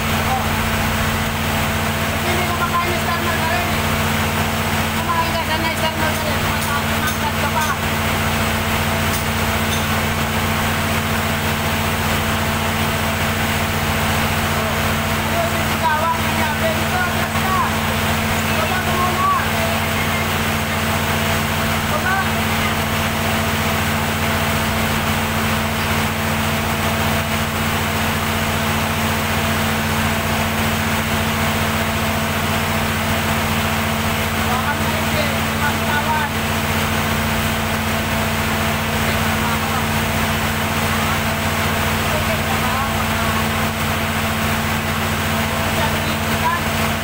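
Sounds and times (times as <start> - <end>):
diesel generator running: 0.0 - 47.0.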